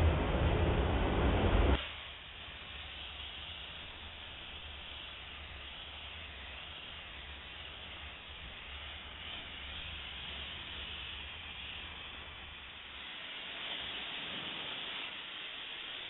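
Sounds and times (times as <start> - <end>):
steam cleaner low hum: 0.0 - 16.0
steam hissing from wand: 1.8 - 16.0.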